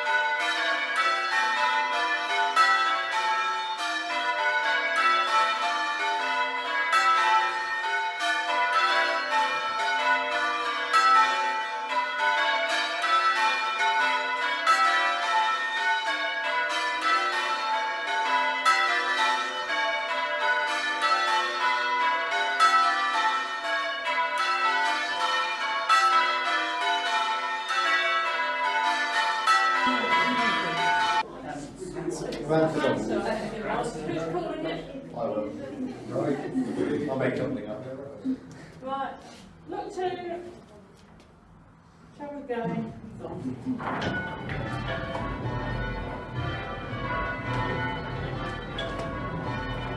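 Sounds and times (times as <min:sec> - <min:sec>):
church bells change ringing: 0:00.0 - 0:35.8, 0:43.7 - 0:49.9.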